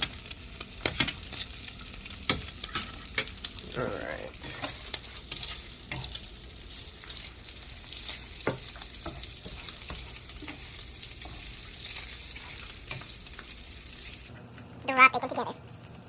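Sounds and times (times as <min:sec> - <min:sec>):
cooking oil sizzling: 0:00.0 - 0:16.0.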